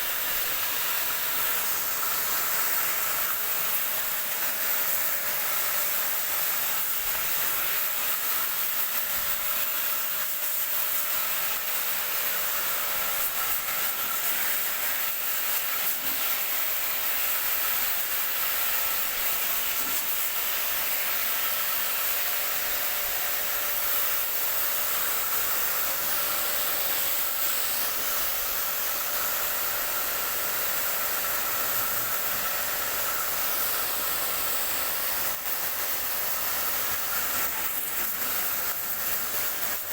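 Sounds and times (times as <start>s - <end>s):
water spraying: 0.0s - 39.9s.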